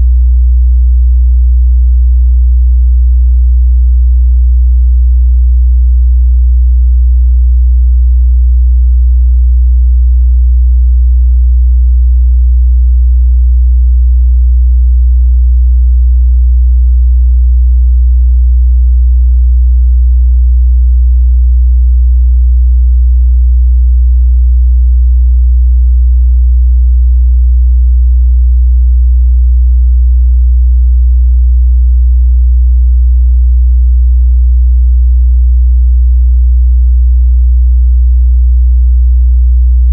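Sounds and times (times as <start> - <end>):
low sine test tone: 0.0 - 31.0, 31.6 - 35.7, 38.3 - 39.9.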